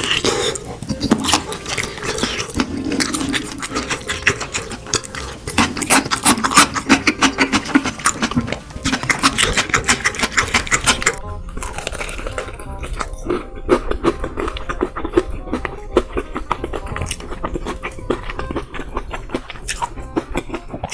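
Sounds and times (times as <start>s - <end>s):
crunching and chewing fried chicken: 0.0s - 20.9s.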